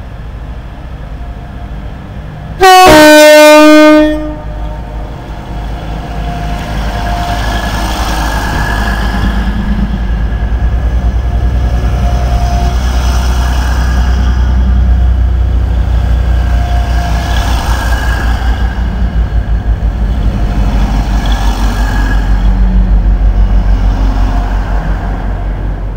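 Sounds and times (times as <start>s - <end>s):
diesel train rumbling: 0.0s - 25.9s.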